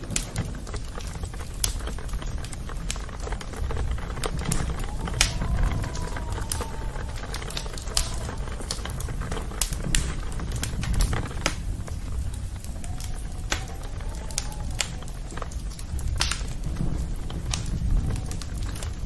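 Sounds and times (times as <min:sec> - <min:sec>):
campfire crackling and popping: 0:00.0 - 0:19.0
low rumble of flames: 0:00.0 - 0:19.0.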